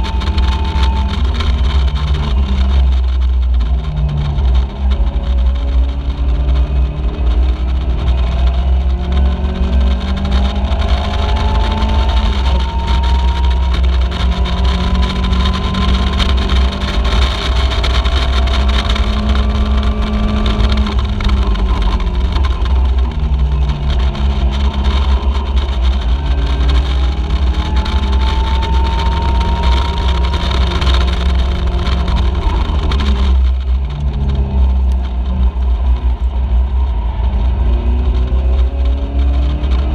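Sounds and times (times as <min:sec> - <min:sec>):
low wind rumble: 0:00.0 - 0:39.9
race car engine revving: 0:00.0 - 0:39.9.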